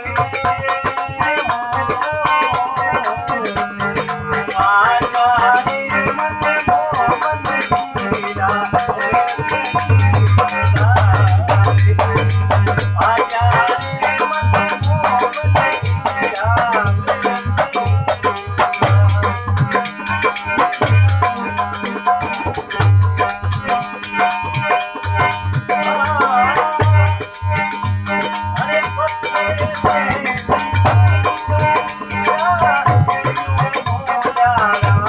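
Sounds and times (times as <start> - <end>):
dense rattling percussion: 0.0 - 35.0.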